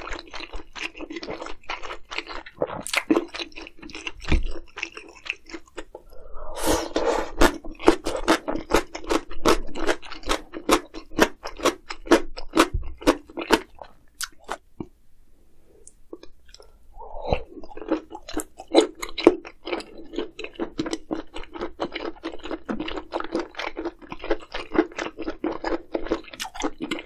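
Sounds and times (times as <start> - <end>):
chewing and biting food: 0.0 - 6.0, 6.8 - 14.6, 16.1 - 27.0.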